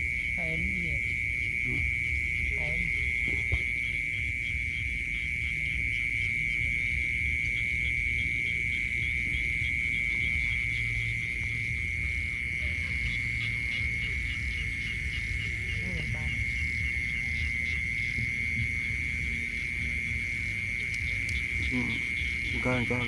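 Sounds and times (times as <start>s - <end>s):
insects trilling: 0.0s - 23.0s
pulsing insect chirp: 0.0s - 23.0s.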